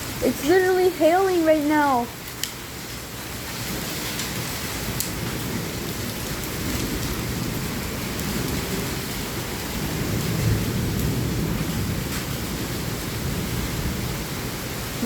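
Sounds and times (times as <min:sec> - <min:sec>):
sharp hail ticks: 0:00.0 - 0:12.6
heavy rain with hail: 0:00.0 - 0:15.0.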